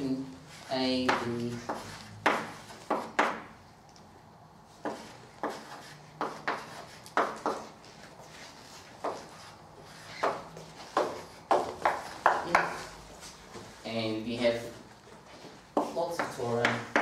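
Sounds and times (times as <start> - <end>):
chalk tapping and scraping on blackboard: 0.0 - 3.6, 4.7 - 13.8, 15.0 - 17.0.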